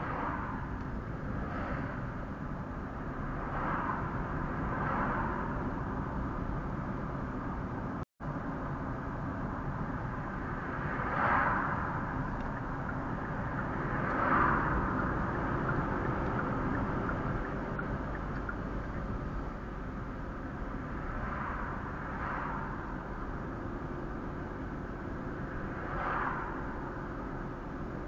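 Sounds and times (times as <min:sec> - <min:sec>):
car road and engine noise: 0:00.0 - 0:28.0.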